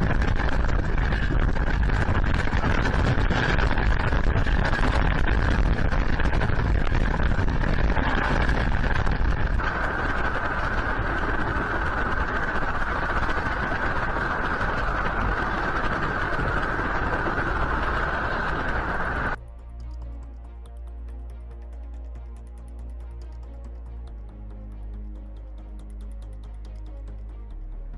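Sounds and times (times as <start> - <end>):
low rumble: 0.0 - 27.9
steady rushing noise: 0.0 - 27.9.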